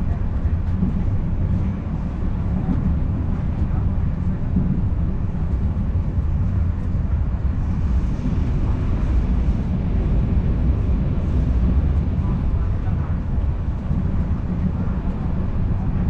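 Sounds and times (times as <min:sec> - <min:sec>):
train coach rumbling on track: 0:00.0 - 0:16.0.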